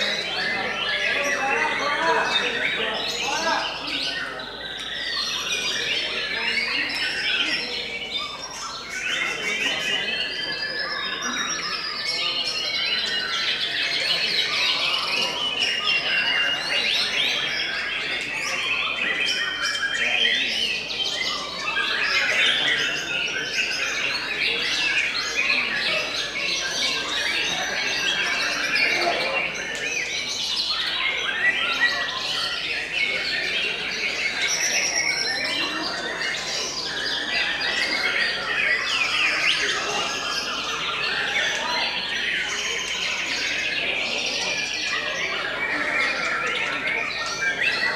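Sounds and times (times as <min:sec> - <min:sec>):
birds singing: 0:00.0 - 0:47.9.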